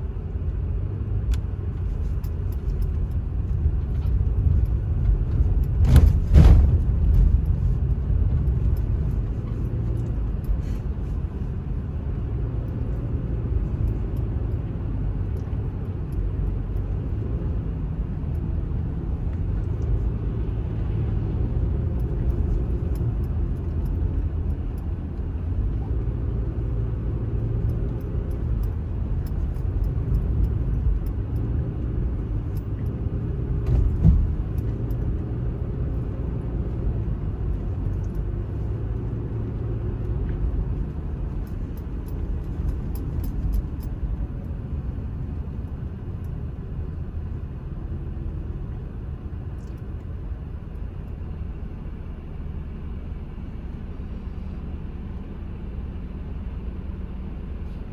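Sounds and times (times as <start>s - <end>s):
tyre and engine rumble: 0.0s - 57.9s.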